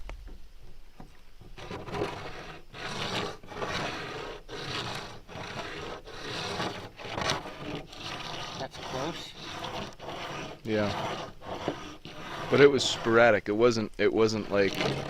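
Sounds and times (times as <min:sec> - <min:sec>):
rock scraping across table: 0:01.0 - 0:15.0.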